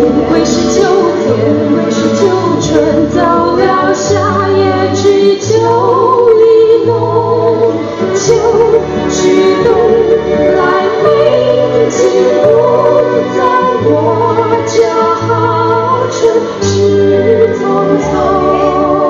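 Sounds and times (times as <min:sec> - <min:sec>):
female voice singing: 0:00.0 - 0:19.0.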